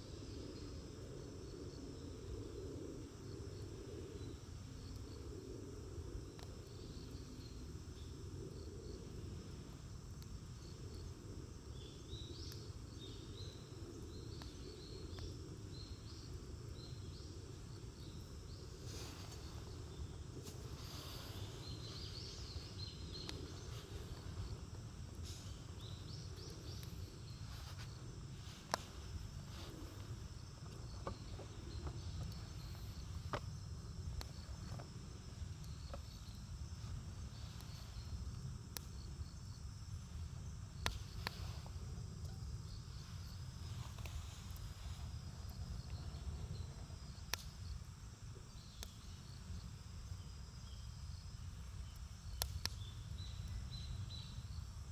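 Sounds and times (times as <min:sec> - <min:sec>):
faint insects chirping: 0:00.0 - 0:54.9
low fire rumble: 0:00.0 - 0:54.9
campfire crackling pops: 0:10.0 - 0:50.3, 0:50.9 - 0:54.9.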